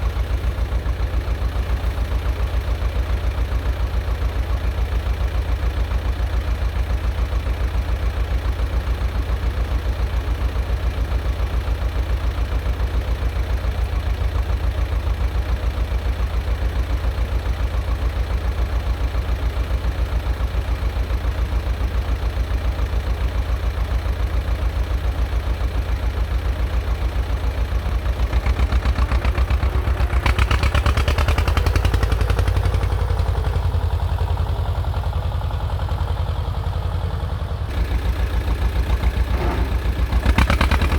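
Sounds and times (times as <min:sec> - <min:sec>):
diesel tractor engine running: 0:00.0 - 0:40.9.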